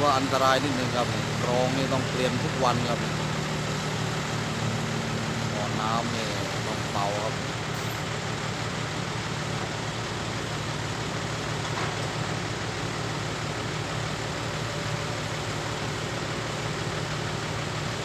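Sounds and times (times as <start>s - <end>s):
diesel engine drone: 0.0s - 18.0s.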